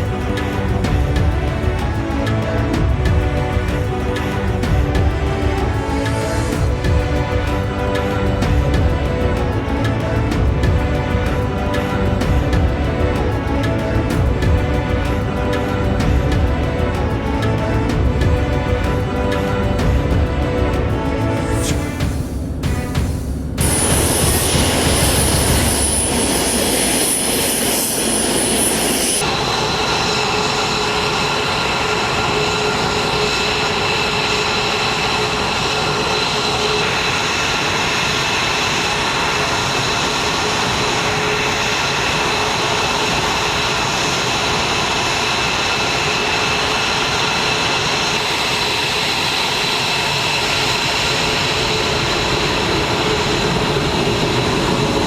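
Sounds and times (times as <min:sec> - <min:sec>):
jet engine whining: 0:00.0 - 0:55.0.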